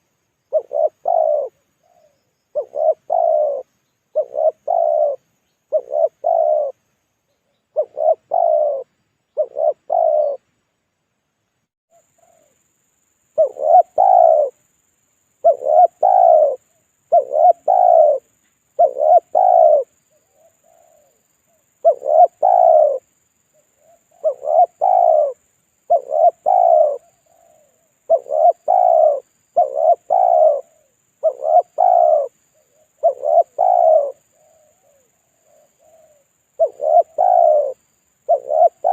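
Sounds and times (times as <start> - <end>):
dove cooing: 0.0 - 6.8, 7.5 - 10.5, 11.9 - 12.6, 13.4 - 14.6, 15.4 - 38.9.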